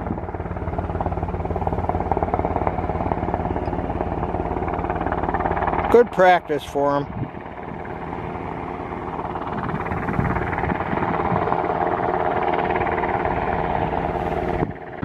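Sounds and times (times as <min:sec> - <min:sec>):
helicopter engine whine: 0:00.0 - 0:15.0
helicopter rotor chop: 0:00.0 - 0:15.0.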